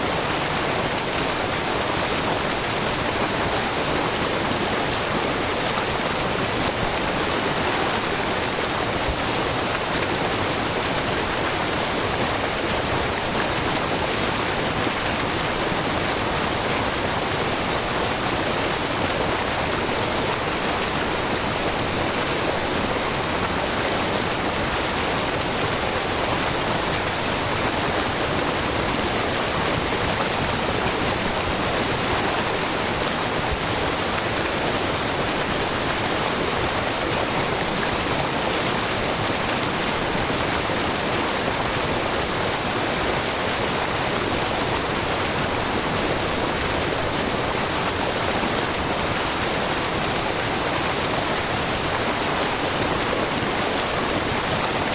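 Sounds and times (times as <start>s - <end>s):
waterfall pouring into pool: 0.0s - 54.9s.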